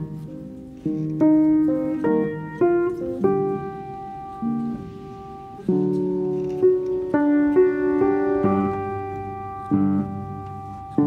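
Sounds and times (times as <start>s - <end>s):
instrumental music ringing chords: 0.0s - 11.0s.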